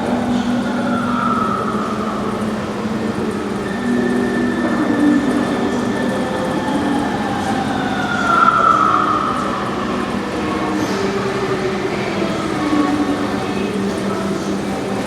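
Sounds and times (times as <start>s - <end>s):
metro train electric drive whining: 0.0s - 15.0s.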